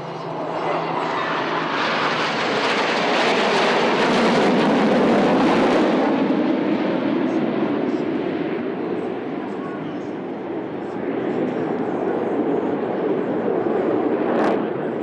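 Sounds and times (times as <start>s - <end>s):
jets passing overhead: 0.0s - 15.0s.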